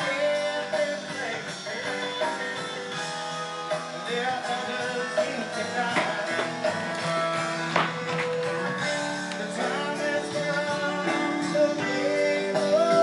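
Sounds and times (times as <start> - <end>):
guitar-led song with singing: 0.0 - 13.0.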